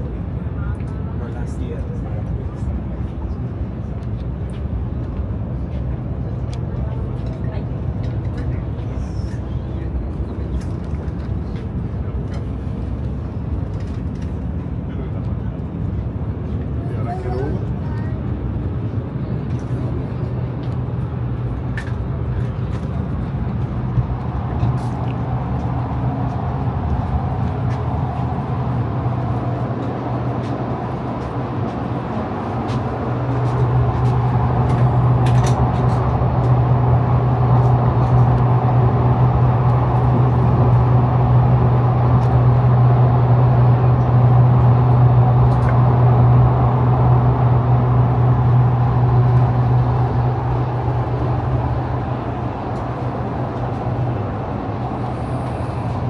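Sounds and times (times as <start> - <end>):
train running rumble inside carriage: 0.0 - 56.0.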